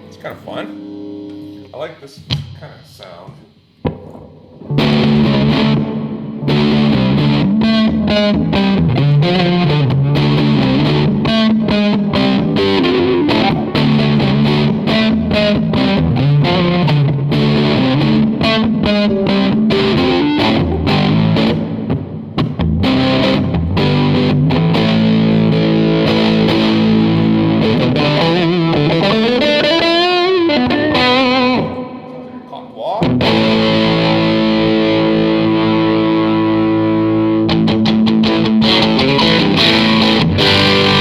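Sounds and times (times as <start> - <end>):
electric guitar riffs and chords: 3.8 - 41.0.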